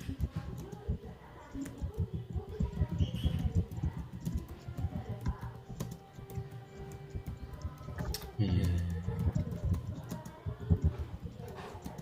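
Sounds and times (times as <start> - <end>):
keyboard typing: 0.0 - 12.0.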